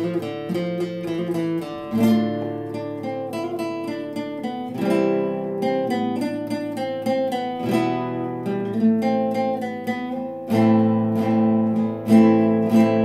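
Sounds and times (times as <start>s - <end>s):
classical guitar playing: 0.0s - 13.0s.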